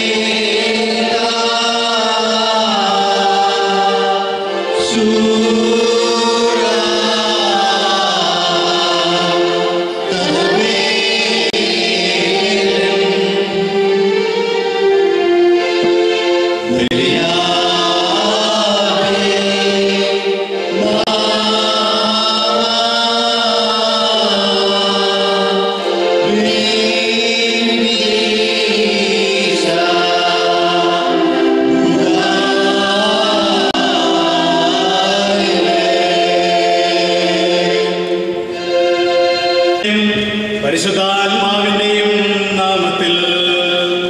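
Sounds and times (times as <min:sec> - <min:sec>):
mixed choir singing a hymn: 0:00.0 - 0:44.0.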